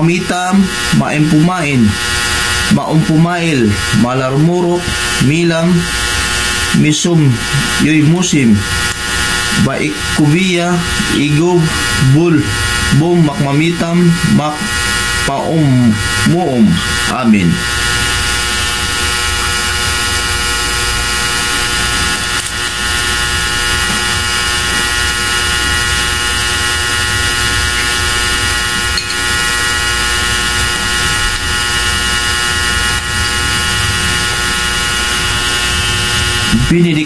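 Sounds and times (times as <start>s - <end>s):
buzzing electrical hum: 0.0s - 37.0s.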